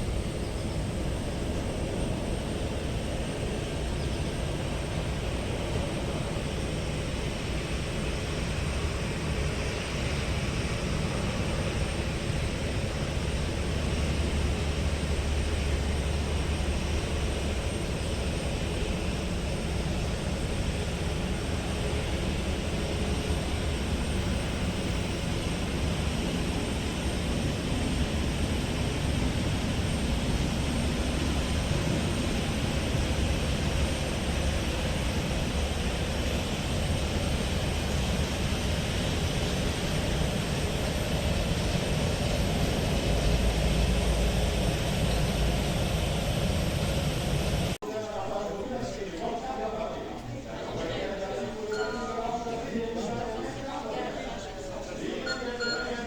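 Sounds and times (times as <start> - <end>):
jet engine rumble and hiss: 0.0 - 56.0.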